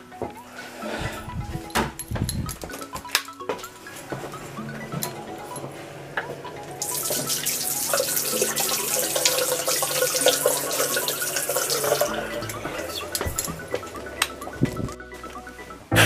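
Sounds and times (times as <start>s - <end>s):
music with low held notes: 0.0s - 16.0s.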